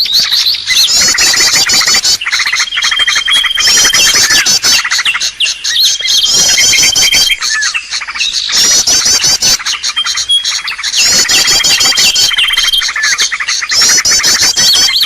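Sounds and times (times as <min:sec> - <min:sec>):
recorded bird calls: 0:00.0 - 0:15.0.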